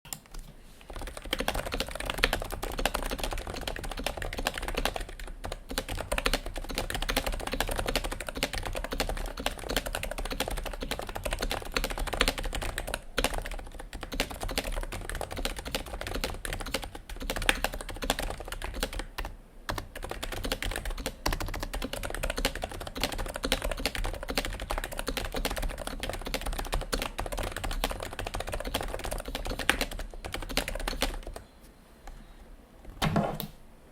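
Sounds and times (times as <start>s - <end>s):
keyboard typing: 0.1s - 31.4s.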